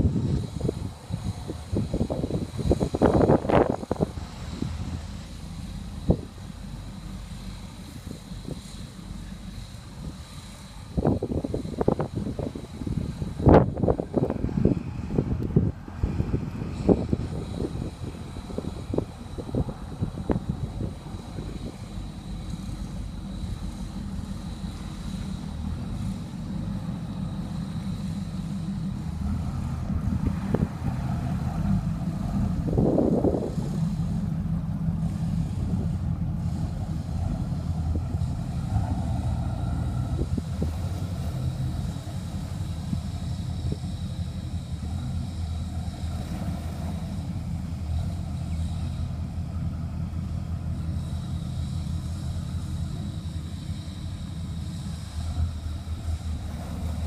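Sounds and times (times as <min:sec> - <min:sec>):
boat engines droning: 0:00.0 - 0:57.0.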